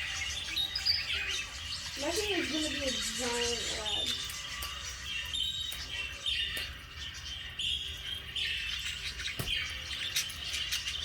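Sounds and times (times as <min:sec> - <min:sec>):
budgies chattering and chirping: 0:00.0 - 0:11.0.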